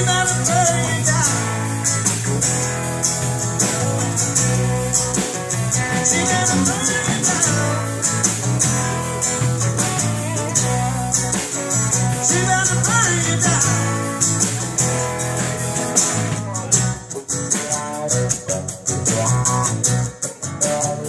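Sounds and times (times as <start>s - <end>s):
drums and cymbal hits: 0.0s - 21.0s
electric guitar: 0.0s - 21.0s
low bass notes: 0.0s - 21.0s
strummed acoustic guitar: 0.0s - 21.0s.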